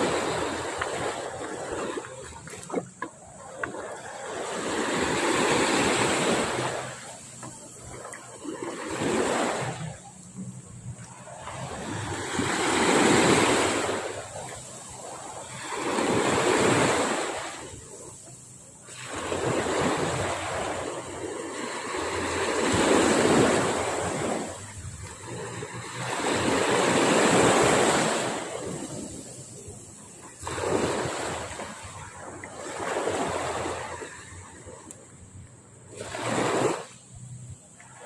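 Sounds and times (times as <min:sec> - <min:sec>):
sea waves breaking on a beach: 0:00.0 - 0:38.0.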